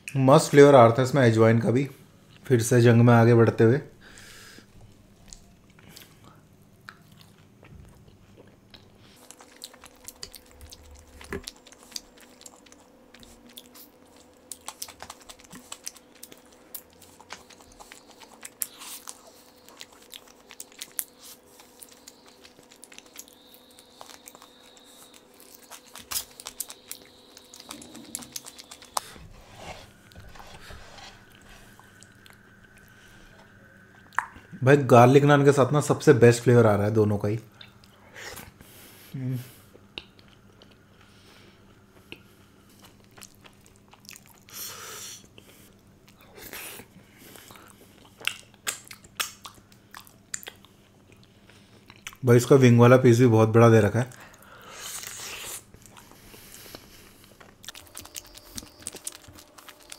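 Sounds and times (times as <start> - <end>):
man chewing and biting food: 4.8 - 34.5, 39.7 - 52.2, 54.1 - 59.9.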